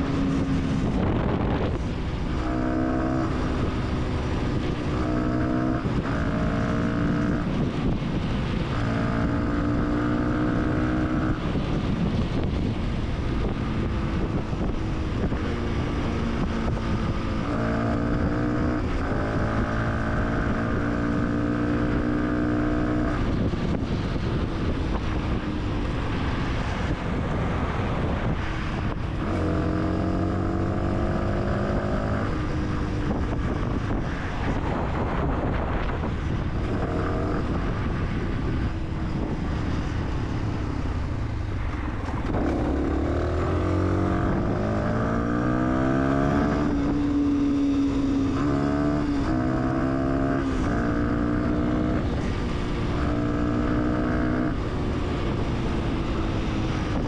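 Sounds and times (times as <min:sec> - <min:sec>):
motorcycle engine shifting gears: 0:00.0 - 0:57.0
wind rushing over microphone: 0:00.0 - 0:57.0.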